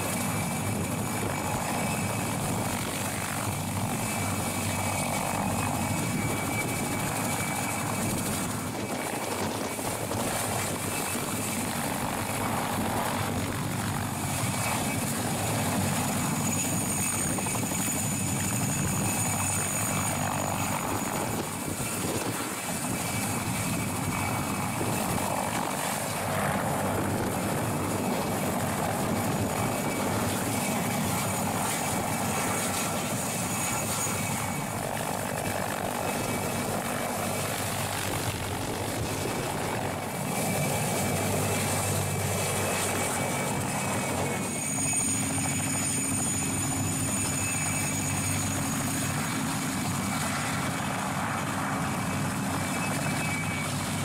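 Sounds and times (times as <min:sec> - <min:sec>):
helicopter rotor noise: 0:00.0 - 0:54.0
high-pitched turbine whine: 0:00.0 - 0:54.0.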